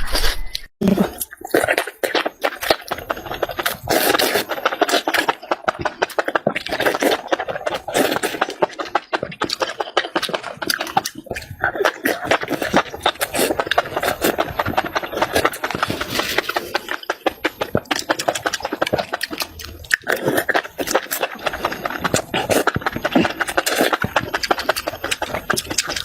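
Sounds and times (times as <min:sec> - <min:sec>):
person chewing with wet smacks: 0:00.8 - 0:26.0.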